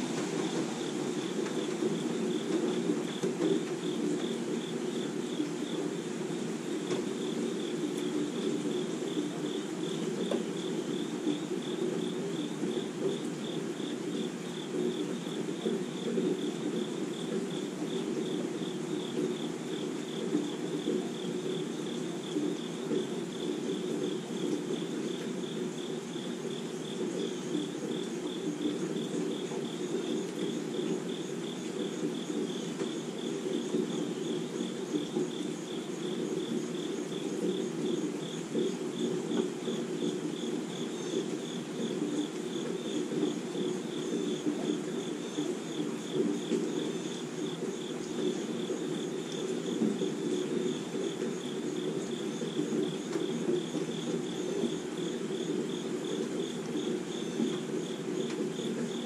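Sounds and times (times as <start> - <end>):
crickets chirping: 0.0 - 59.0
rain falling on trees: 0.0 - 59.0.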